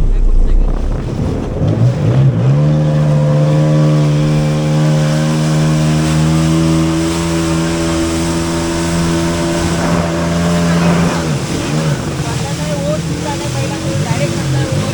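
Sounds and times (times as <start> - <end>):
jet ski engine revving: 0.0 - 14.9.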